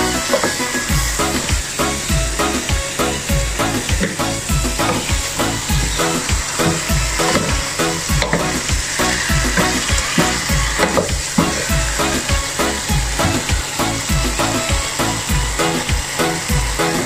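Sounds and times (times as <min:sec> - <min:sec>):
music with a steady beat: 0:00.0 - 0:17.0
chicken sizzling in a pot: 0:00.2 - 0:17.0.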